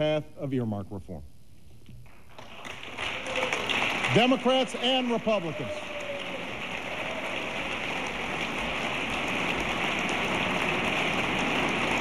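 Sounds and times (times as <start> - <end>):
large audience applauding: 2.2 - 12.0.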